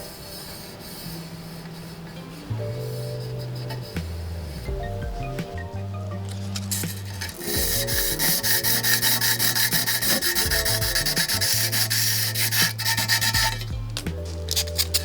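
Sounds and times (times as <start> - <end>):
sandpaper rubbing metal frame: 0.0 - 4.8, 6.2 - 15.0
background music: 0.0 - 15.0.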